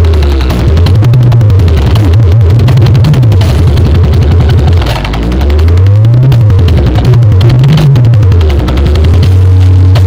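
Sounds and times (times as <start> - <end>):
distorted bass-heavy music: 0.0 - 10.0.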